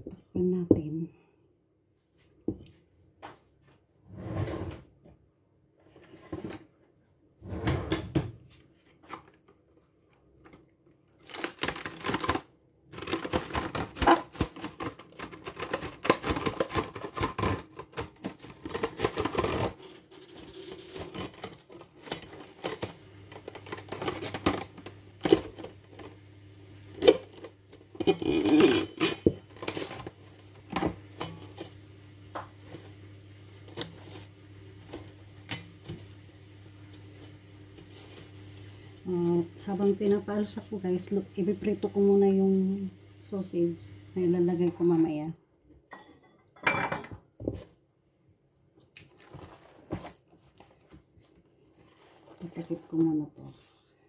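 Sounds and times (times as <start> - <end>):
low steady hum: 9.8 - 54.0.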